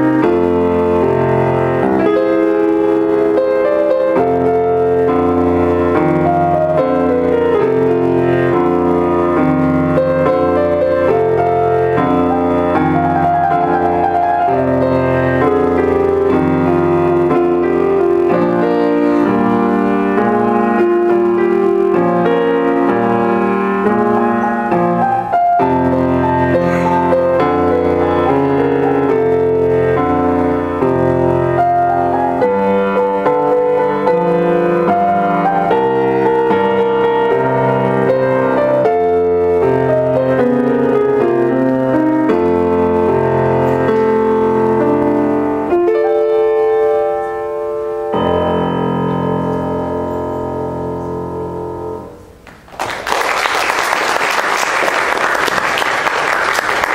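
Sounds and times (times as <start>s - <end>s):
solo grand piano: 0.0s - 56.9s.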